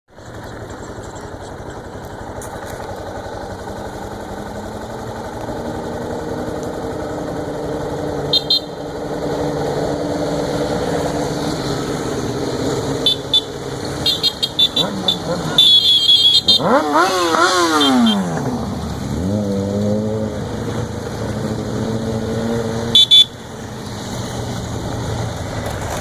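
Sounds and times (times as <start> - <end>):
vehicle engine running: 0.1 - 26.0.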